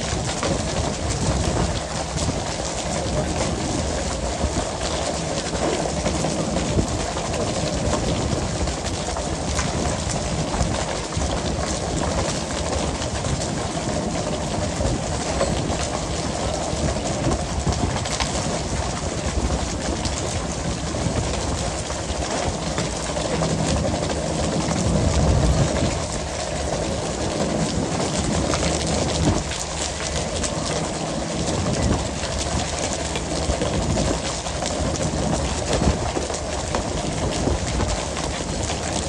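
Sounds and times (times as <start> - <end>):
boat engine and water noise: 0.0 - 39.0
low rumble: 0.0 - 39.0.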